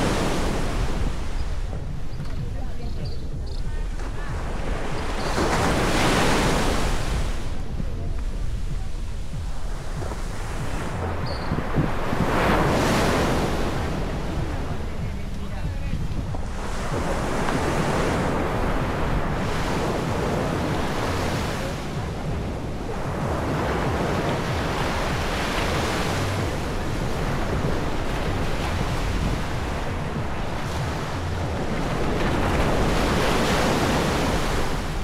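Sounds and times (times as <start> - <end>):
sea surf breaking on beach: 0.0 - 1.8, 3.8 - 35.0
wind rumbling on microphone: 0.0 - 35.0.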